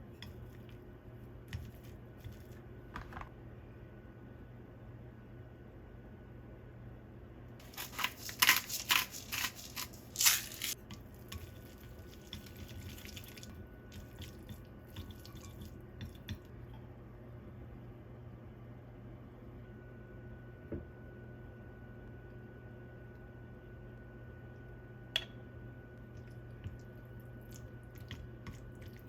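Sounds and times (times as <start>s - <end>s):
low appliance hum: 0.0s - 29.0s.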